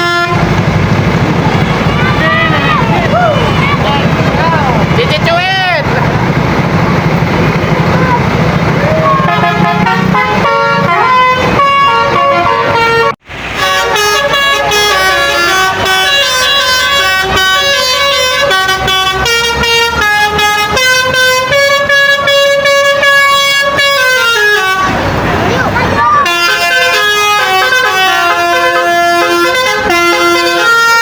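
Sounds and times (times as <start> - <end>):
bus musical horn melody: 0.0 - 4.9, 8.9 - 31.0.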